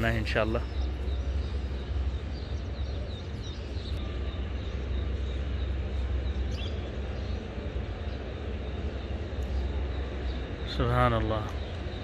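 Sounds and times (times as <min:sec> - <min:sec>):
low rumble and hiss: 0:00.0 - 0:12.0
small birds chirping: 0:00.0 - 0:12.0.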